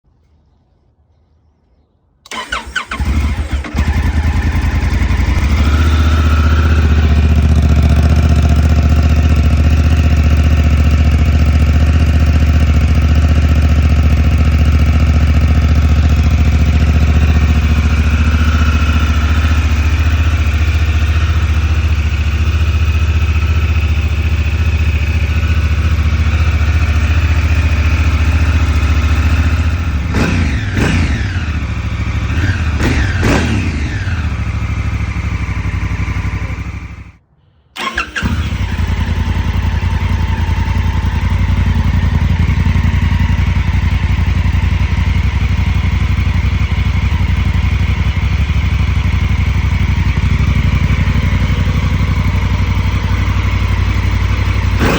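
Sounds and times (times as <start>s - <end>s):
motorcycle engine idling: 2.3s - 37.2s, 37.8s - 54.9s.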